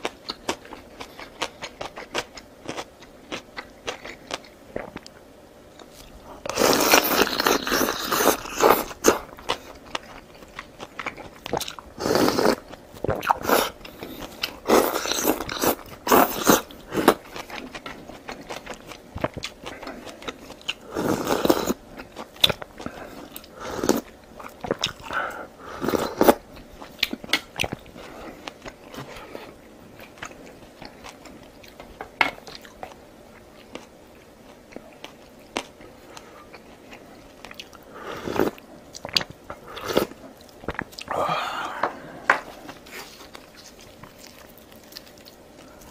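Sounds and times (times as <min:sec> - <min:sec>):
crunchy chewing: 0:00.0 - 0:41.2, 0:42.5 - 0:45.9.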